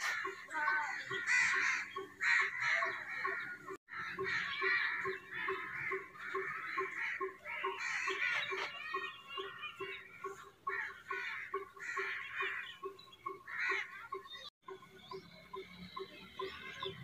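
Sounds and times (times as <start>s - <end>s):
crows cawing: 0.0s - 14.4s.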